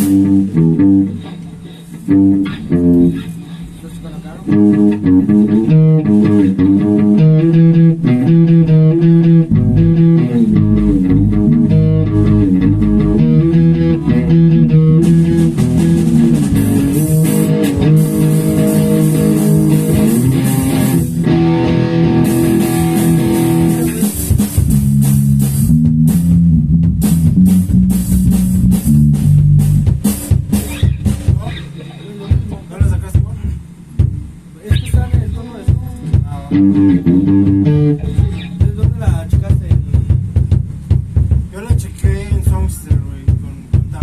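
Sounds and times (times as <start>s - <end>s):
guitar and bass riff: 0.0s - 3.8s, 4.4s - 32.7s, 33.7s - 39.4s
drums with cymbals: 0.0s - 8.4s, 9.0s - 44.0s.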